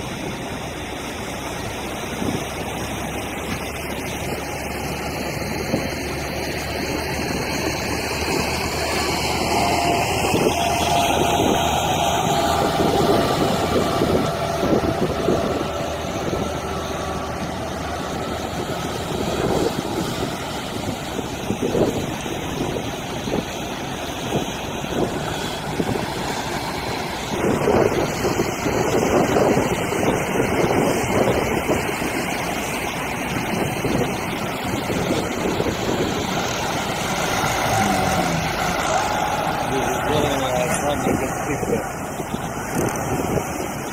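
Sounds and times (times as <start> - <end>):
tractor diesel engine under load: 0.0 - 43.9
waves washing: 0.0 - 43.9
wind buffeting microphone: 0.0 - 43.9.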